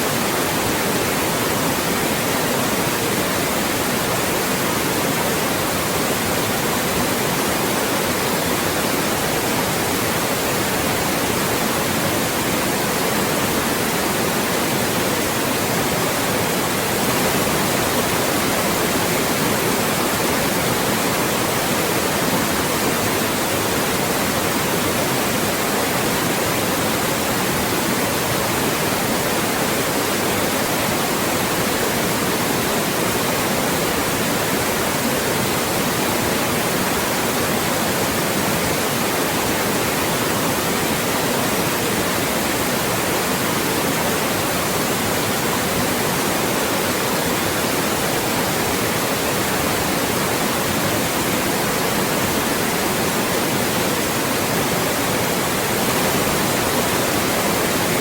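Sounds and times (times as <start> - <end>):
loud steady white noise: 0.0 - 58.0.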